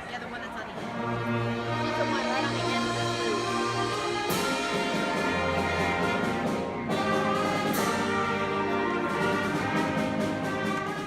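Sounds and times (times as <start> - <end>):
concert band playing: 0.0 - 11.0.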